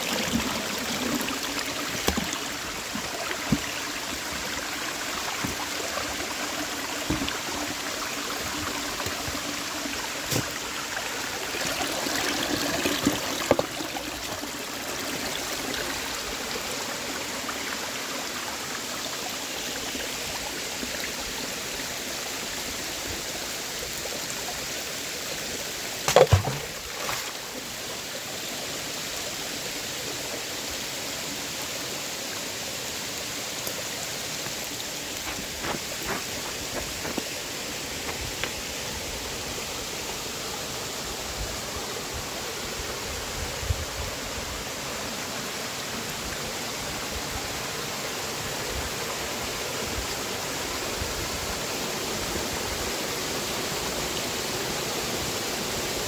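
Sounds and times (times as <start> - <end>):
creek water trickling and gurgling: 0.0 - 56.0.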